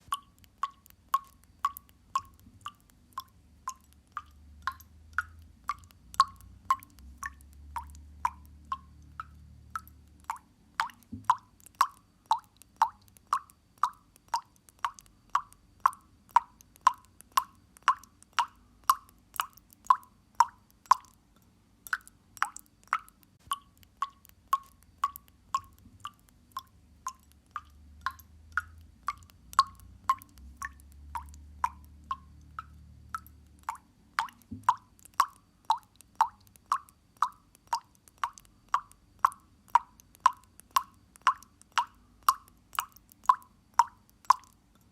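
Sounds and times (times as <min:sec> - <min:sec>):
faint low hum: 0:00.0 - 0:44.9
water dripping: 0:00.0 - 0:44.9.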